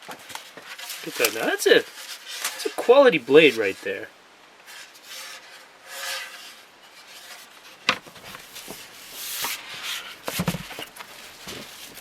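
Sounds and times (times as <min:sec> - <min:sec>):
rubbing and rustling packaging: 0:00.0 - 0:12.0.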